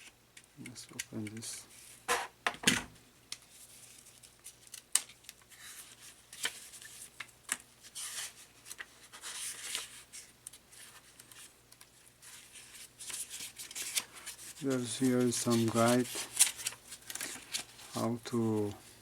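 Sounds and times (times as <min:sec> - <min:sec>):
paper packaging rustling: 0:03.4 - 0:18.8.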